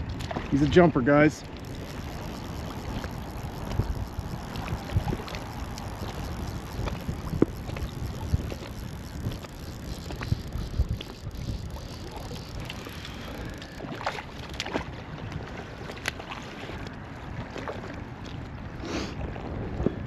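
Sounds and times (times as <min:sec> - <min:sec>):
small waves lapping: 0:00.0 - 0:20.0
wind rumbling on microphone: 0:00.0 - 0:20.0.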